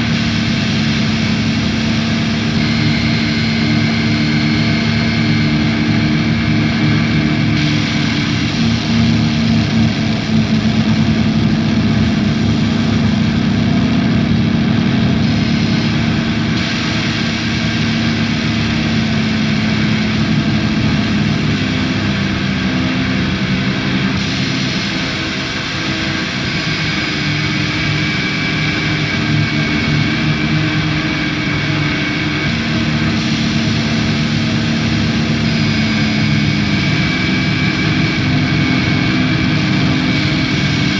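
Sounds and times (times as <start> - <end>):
dense wall of noise: 0.0 - 40.9
faint high whine: 0.0 - 40.9
low droning tone: 0.0 - 40.9.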